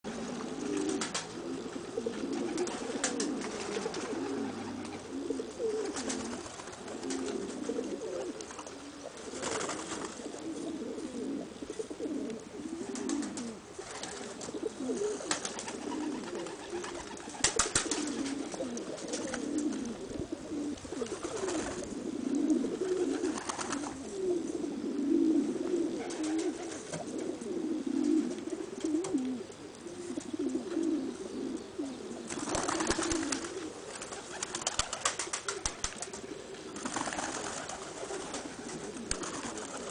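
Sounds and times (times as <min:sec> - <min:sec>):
pigeons cooing: 0:00.1 - 0:39.9.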